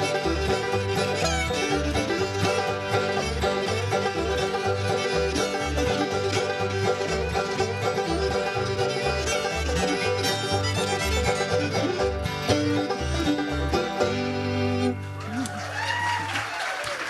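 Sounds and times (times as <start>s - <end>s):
banjo: 0.0s - 15.4s
string band playing fiddle tune: 0.0s - 15.6s
fiddle: 0.0s - 16.2s.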